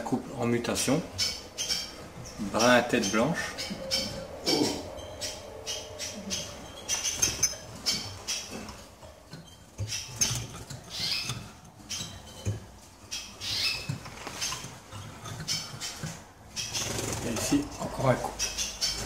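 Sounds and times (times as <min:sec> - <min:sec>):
finches chirping: 0:00.0 - 0:19.0.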